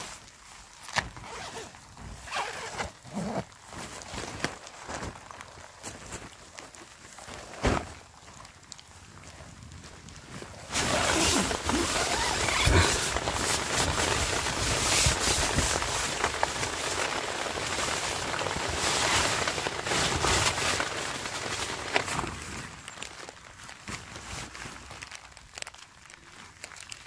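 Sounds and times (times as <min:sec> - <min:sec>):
plastic poncho crinkling: 0:00.0 - 0:27.0
rain pattering on tent fabric: 0:00.0 - 0:27.0.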